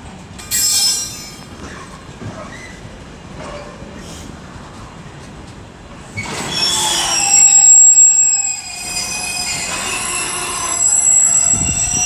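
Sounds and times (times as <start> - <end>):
train wheels squealing: 0.4 - 4.3, 6.1 - 12.0.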